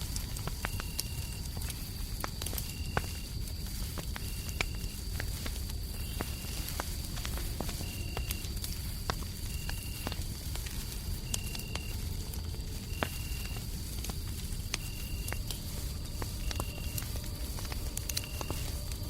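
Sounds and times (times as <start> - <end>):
crickets chirping: 0.0 - 19.0
fireplace crackling and popping: 0.0 - 19.0
high insect tone: 0.0 - 19.0.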